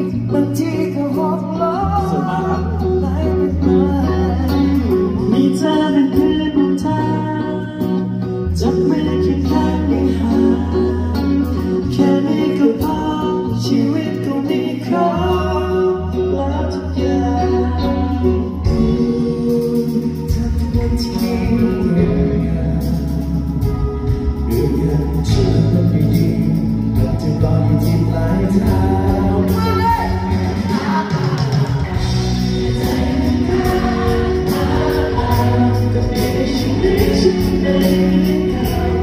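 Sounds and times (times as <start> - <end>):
bass line: 0.0 - 39.0
guitar: 0.0 - 39.0
person singing: 0.0 - 39.0.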